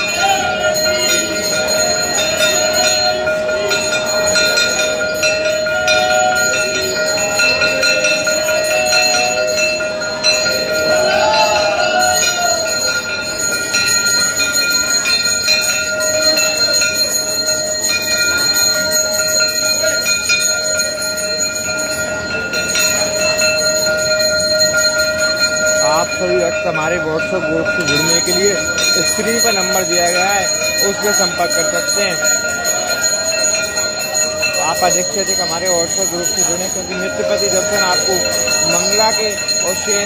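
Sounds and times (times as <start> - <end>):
temple bells ringing: 0.0 - 40.0.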